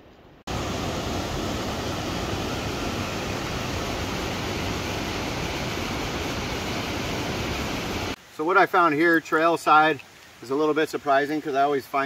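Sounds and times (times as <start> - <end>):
creek rushing over rocks: 0.5 - 12.0.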